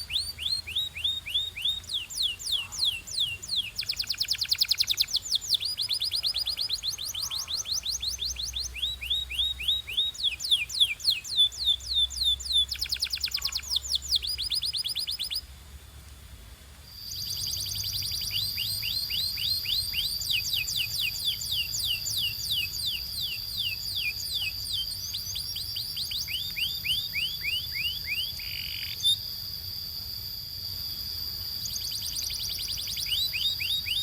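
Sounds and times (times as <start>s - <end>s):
canary singing trills: 0.0s - 15.4s, 16.9s - 29.8s, 31.0s - 34.0s.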